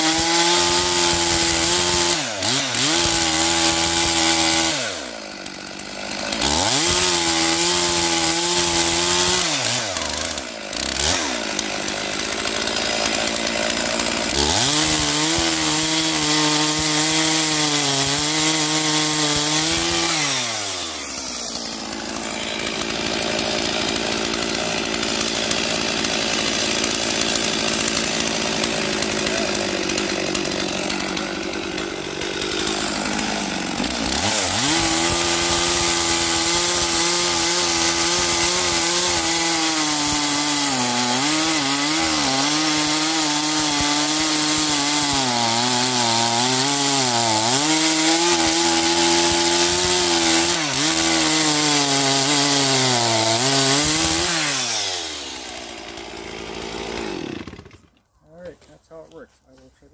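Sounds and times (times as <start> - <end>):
chainsaw cutting log: 0.0 - 59.6.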